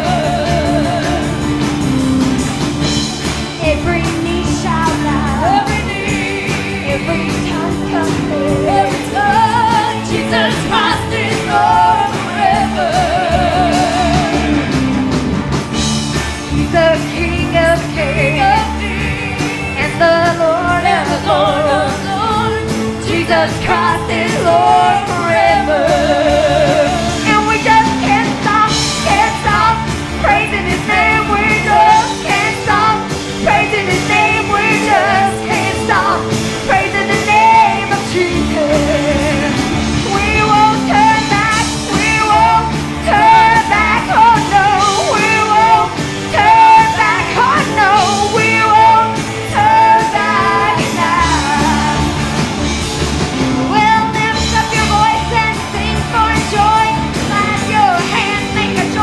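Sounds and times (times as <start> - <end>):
live gospel music: 0.0 - 59.0
voices singing: 0.0 - 59.0.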